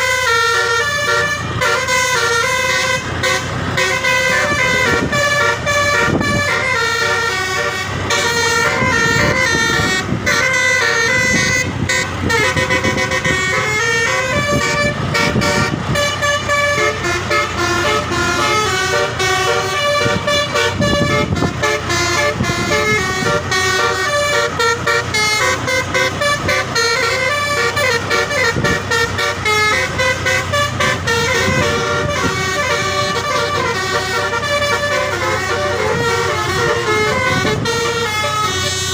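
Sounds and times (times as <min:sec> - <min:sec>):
multi-tone bus horn melody: 0:00.0 - 0:38.9.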